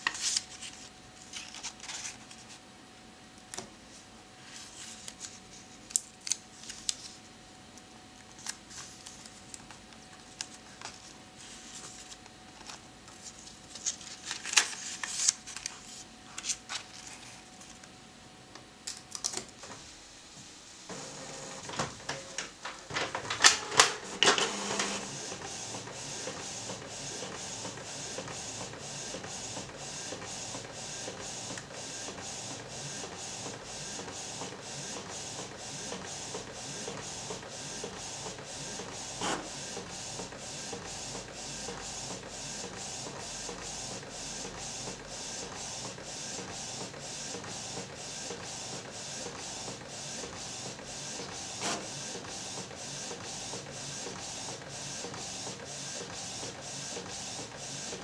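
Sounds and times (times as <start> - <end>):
printer printing: 3.4 - 17.8, 20.9 - 58.0.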